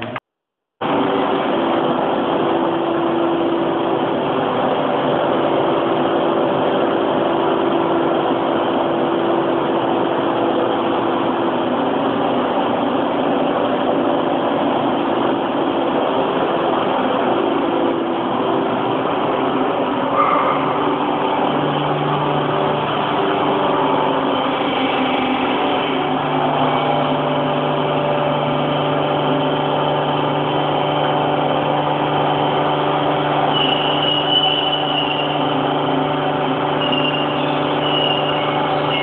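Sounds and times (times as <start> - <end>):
machine droning: 0.8 - 39.0.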